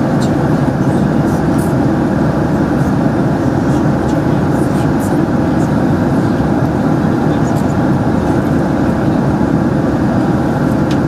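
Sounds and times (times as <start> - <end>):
airplane cabin engine rush: 0.0 - 11.0.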